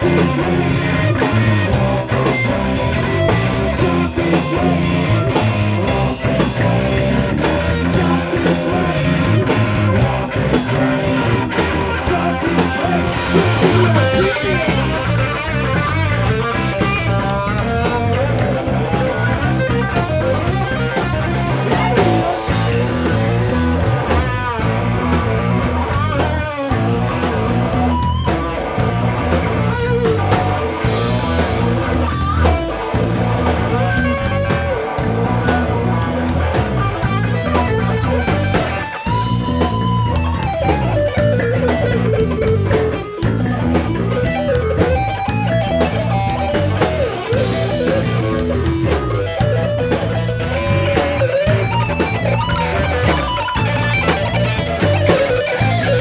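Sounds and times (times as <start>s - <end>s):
lead guitar with bent notes: 0.0s - 56.0s
live rock band playing: 0.0s - 56.0s.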